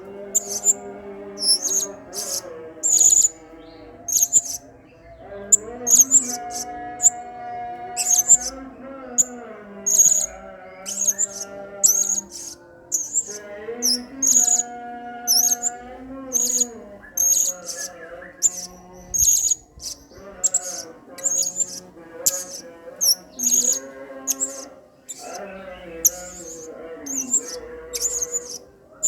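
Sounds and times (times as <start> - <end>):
parrot chirping: 0.3 - 4.7, 5.5 - 7.2, 8.0 - 14.7, 15.3 - 28.8.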